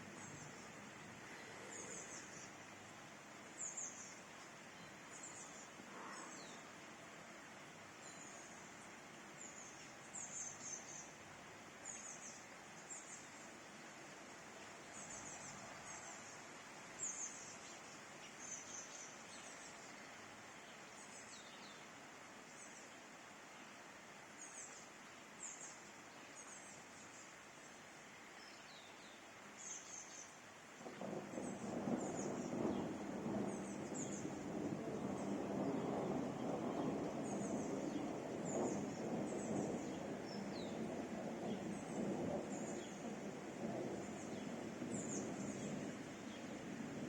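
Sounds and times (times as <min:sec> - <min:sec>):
faint outdoor hiss: 0:00.0 - 0:47.0
small birds chirping: 0:00.1 - 0:02.8, 0:03.5 - 0:06.8, 0:08.0 - 0:11.2, 0:11.8 - 0:23.8, 0:24.4 - 0:47.0.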